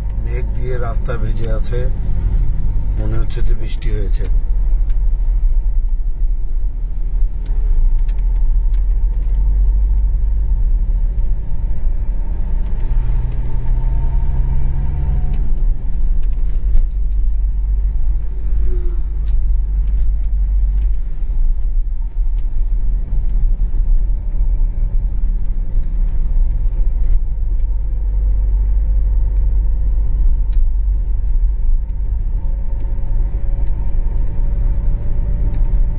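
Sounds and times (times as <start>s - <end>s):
car engine hum: 0.0s - 35.9s
road noise inside car: 0.0s - 35.9s.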